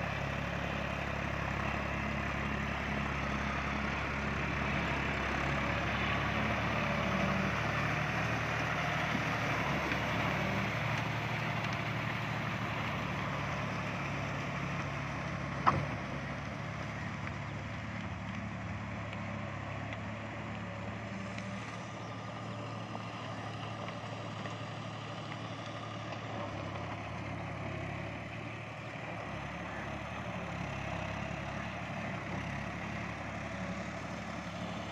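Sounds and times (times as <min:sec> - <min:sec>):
diesel tractor engine under load: 0:00.0 - 0:34.9.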